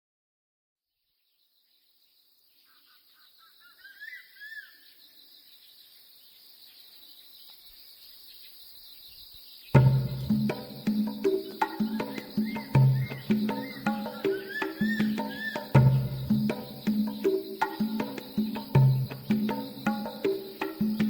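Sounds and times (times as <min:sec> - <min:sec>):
bird chirping calls: 0:01.4 - 0:21.0
high-pitched insect chorus: 0:02.6 - 0:21.0.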